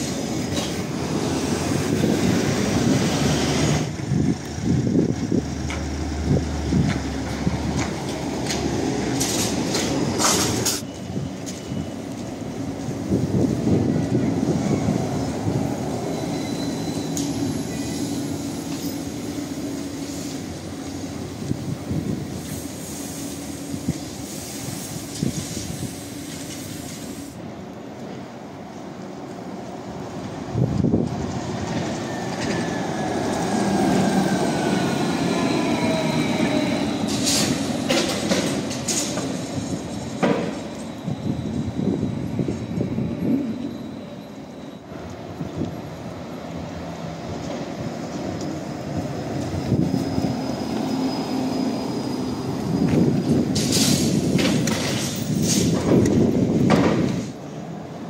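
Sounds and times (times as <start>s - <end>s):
trolleybus passing: 0.0s - 58.0s.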